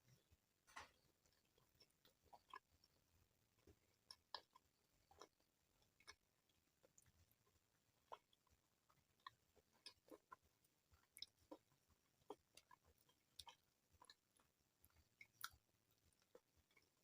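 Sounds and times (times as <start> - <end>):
close-miked chewing: 0.0 - 17.0.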